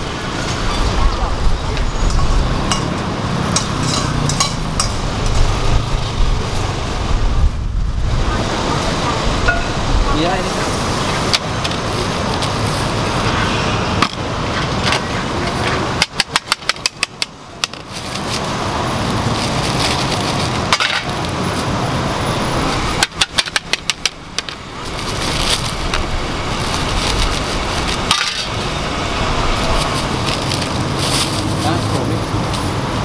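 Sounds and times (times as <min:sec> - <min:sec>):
street traffic noise: 0:00.0 - 0:33.0.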